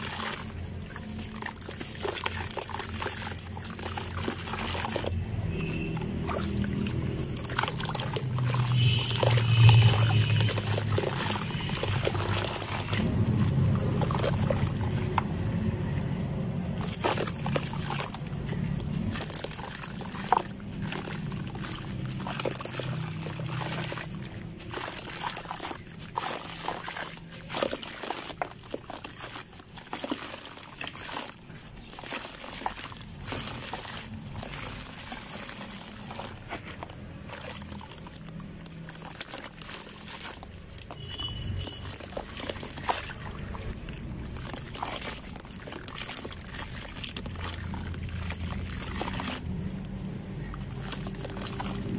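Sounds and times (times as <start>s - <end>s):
water sloshing and trickling: 0.0s - 51.9s.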